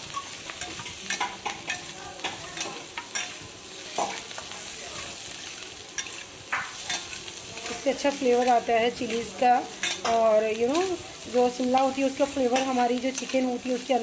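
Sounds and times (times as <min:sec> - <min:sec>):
vegetables sizzling in oil: 0:00.0 - 0:14.0
utensil scraping a pan: 0:00.1 - 0:14.0.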